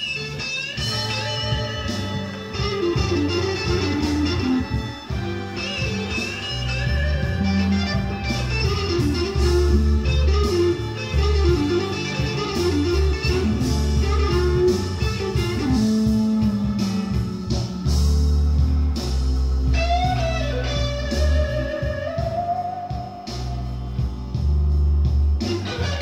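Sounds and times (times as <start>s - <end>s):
electric guitar lead: 0.0s - 26.0s
heavy bass line: 0.0s - 26.0s
steady beat: 0.0s - 26.0s.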